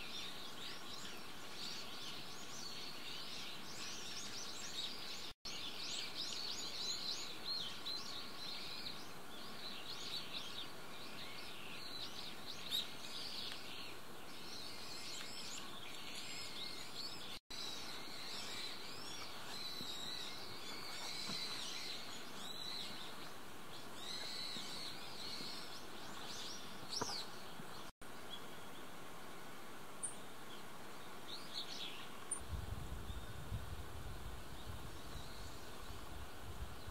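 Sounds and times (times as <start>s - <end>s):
small birds chirping: 0.0s - 36.9s
steady background hiss: 0.0s - 36.9s.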